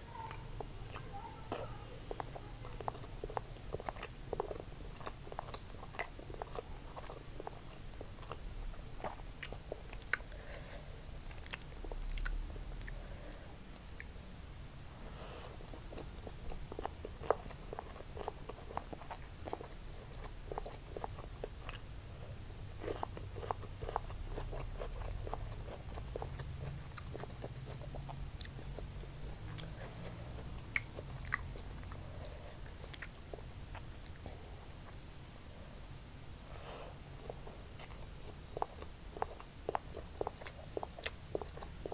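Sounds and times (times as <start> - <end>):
steady low hum: 0.0 - 41.9
chewing with wet mouth clicks: 0.2 - 14.2, 15.7 - 21.9, 22.8 - 35.0, 37.2 - 41.9.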